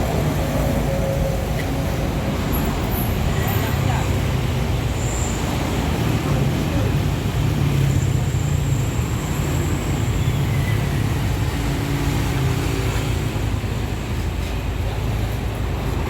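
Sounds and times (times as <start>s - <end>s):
road traffic noise: 0.0s - 16.0s
vehicle engine rumbling: 0.0s - 16.0s.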